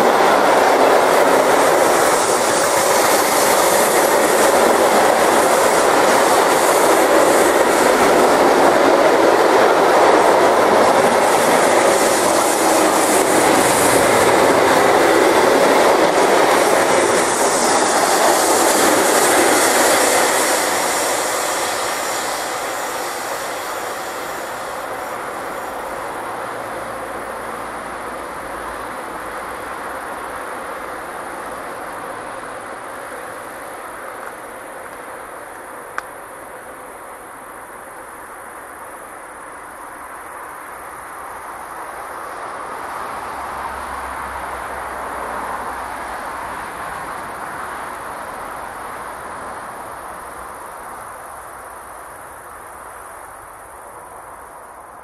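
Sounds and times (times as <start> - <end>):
freight train wheels on rail: 0.0 - 55.0.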